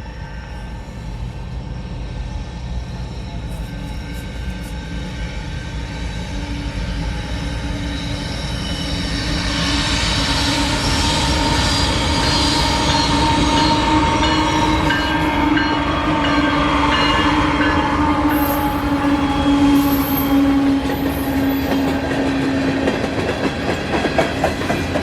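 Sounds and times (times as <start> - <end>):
freight train rumble: 0.0 - 25.0.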